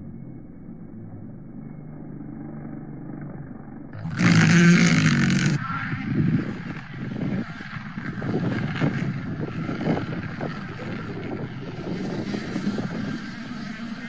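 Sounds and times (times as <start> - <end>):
rally car engine rumbling: 0.0 - 14.0.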